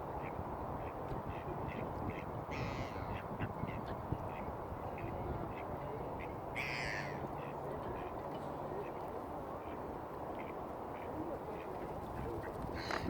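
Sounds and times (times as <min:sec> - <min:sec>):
waterside birds chirping: 0:00.0 - 0:13.0.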